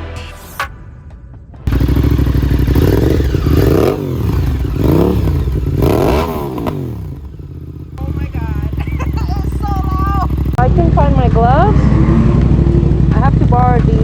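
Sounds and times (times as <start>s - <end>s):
motorcycle engine revving: 1.7s - 14.0s.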